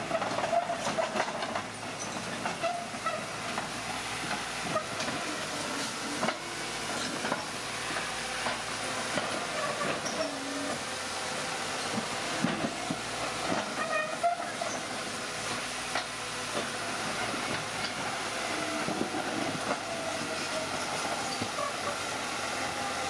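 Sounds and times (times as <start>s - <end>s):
metallic track squeaks and clanks: 0.0s - 3.7s, 4.3s - 10.8s, 11.7s - 22.1s
bulldozer rumbling: 0.0s - 23.0s.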